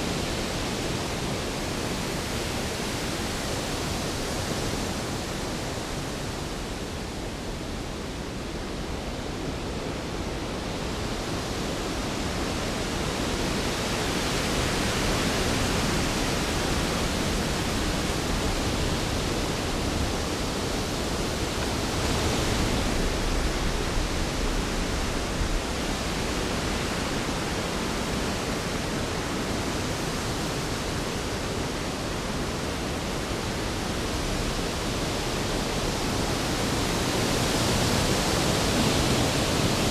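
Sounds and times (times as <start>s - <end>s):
rain: 0.0s - 39.9s
wind: 0.0s - 39.9s.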